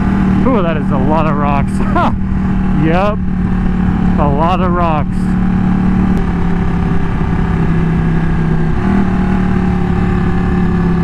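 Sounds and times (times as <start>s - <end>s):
motorcycle engine cruising: 0.0s - 11.0s
wind rush on microphone: 0.0s - 11.0s.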